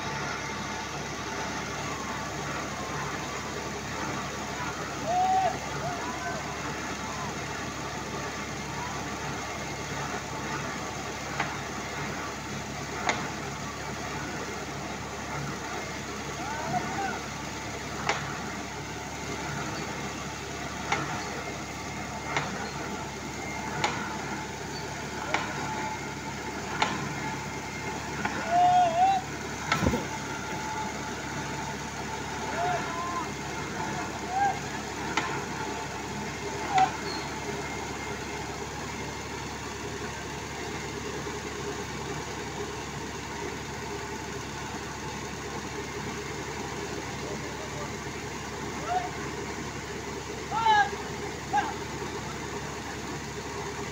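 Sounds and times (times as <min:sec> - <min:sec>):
boring rig engine running: 0:00.0 - 0:53.9.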